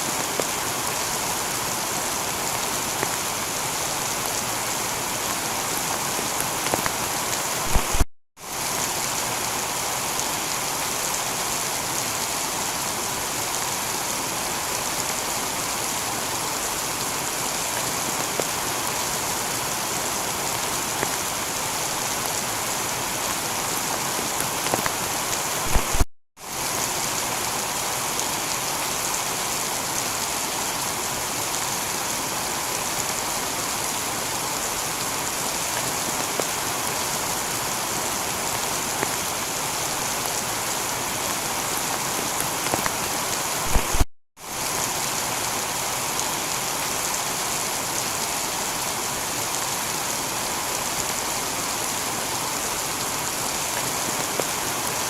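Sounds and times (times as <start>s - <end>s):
heavy rain on a tiled roof: 0.0s - 55.0s.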